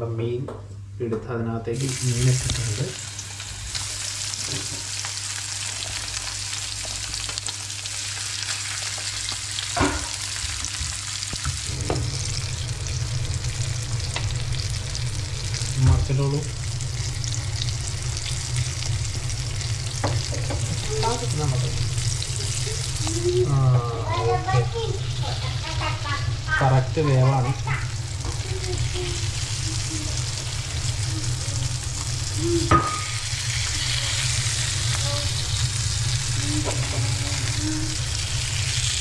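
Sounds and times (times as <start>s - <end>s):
fish sizzling in hot oil: 1.8s - 39.0s.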